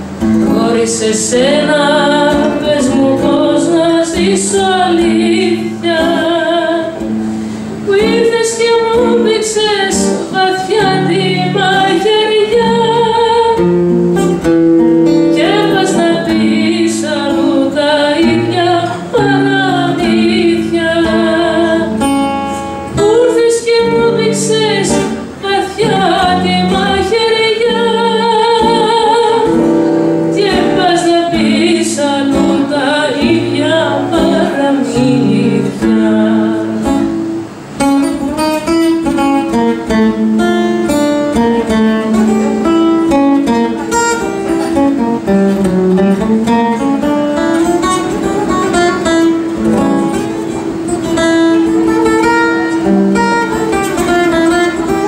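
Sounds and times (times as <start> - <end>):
acoustic guitar: 0.0 - 55.0
woman singing with vibrato: 0.0 - 55.0.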